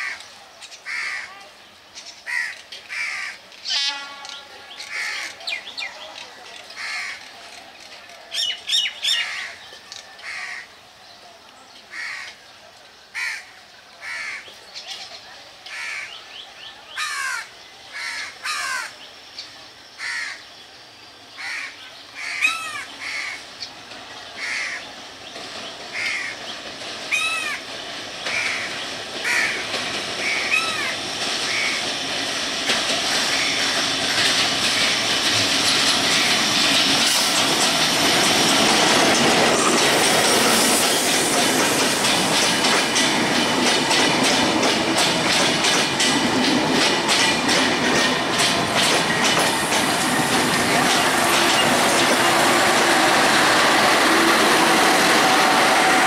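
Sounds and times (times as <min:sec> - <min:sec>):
passenger train passing: 0:00.0 - 0:56.0.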